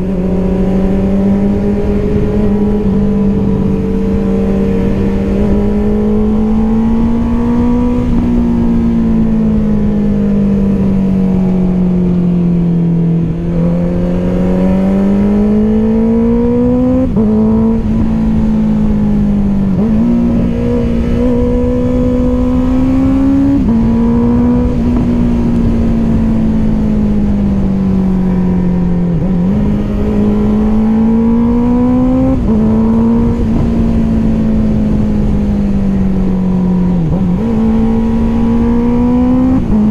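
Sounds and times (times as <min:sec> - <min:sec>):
motorcycle engine accelerating: 0:00.0 - 0:39.9
wind rumble: 0:00.0 - 0:39.9.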